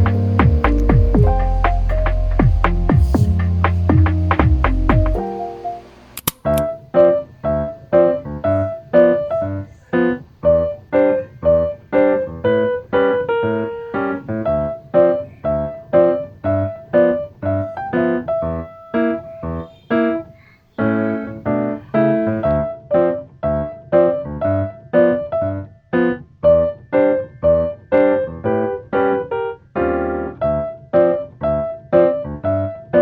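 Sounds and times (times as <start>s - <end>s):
bouncy keyboard melody: 0.0s - 33.0s.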